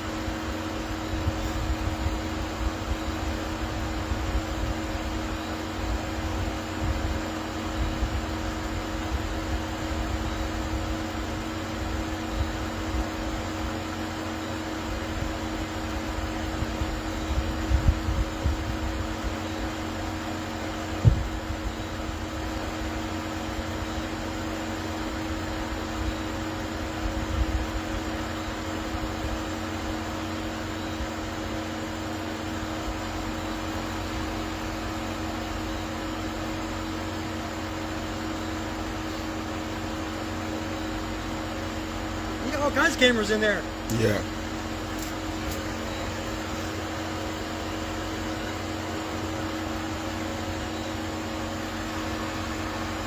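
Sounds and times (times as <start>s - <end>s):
mechanical hum with hiss: 0.0s - 53.0s.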